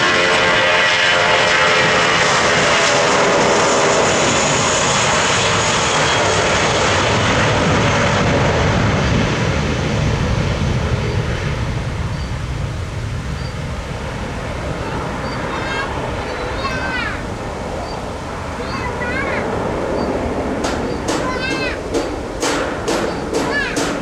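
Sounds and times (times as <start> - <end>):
airplane engines passing: 0.0 - 24.0.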